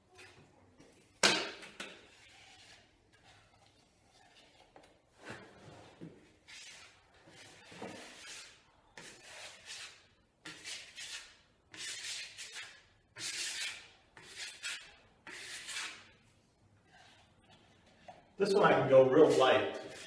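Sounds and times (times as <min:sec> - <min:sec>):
putty knife scraping joint compound: 0:01.6 - 0:16.2, 0:16.8 - 0:20.0.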